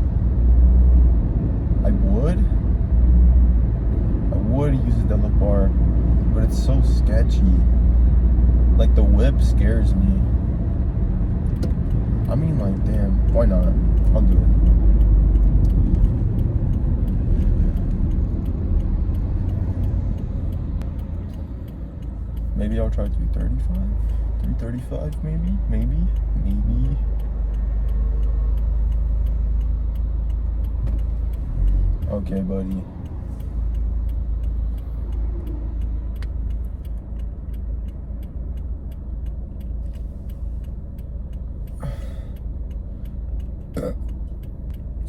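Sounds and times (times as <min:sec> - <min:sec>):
car cabin road and engine rumble: 0:00.0 - 0:45.0.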